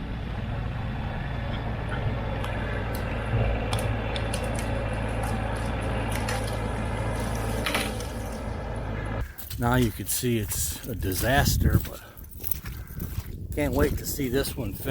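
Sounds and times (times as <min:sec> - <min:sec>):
low motor hum: 0:00.0 - 0:14.1.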